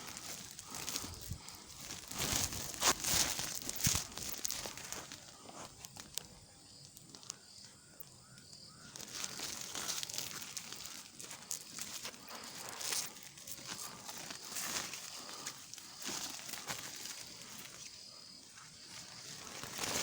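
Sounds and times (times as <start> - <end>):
rustling and crackling handling: 0.0 - 20.0.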